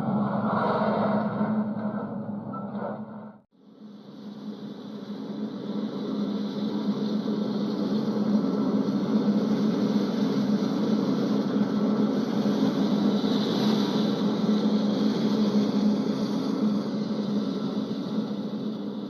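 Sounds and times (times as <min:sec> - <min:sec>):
hiss: 0:03.6 - 0:19.0.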